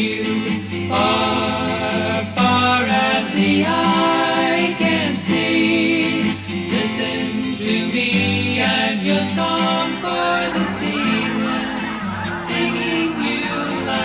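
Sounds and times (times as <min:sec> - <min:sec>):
person singing: 0:00.0 - 0:14.0
plucked acoustic guitar: 0:00.0 - 0:14.0.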